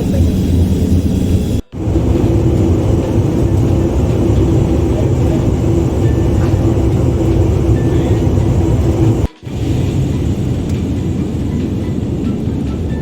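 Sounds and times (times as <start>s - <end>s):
airplane cabin engine drone: 0.0s - 13.0s
faint steady hum: 0.0s - 13.0s.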